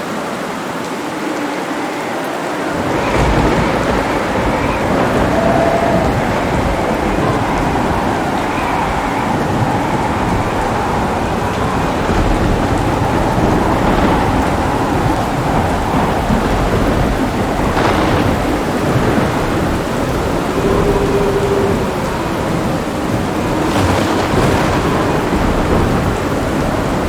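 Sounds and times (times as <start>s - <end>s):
heavy rain: 0.0s - 27.0s
thunder rumbling: 1.4s - 27.0s.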